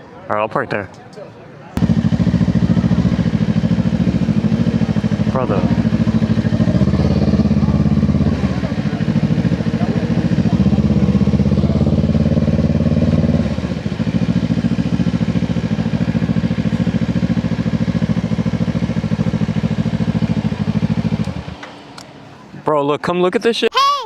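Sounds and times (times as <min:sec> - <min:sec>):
motorcycle engine idling: 0:01.8 - 0:22.4.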